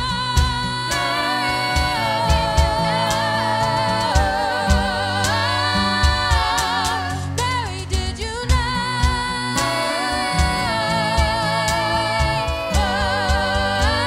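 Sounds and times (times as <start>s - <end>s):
bass notes: 0.0s - 14.0s
cajon beat: 0.0s - 14.0s
woman singing with vibrato: 0.0s - 14.0s.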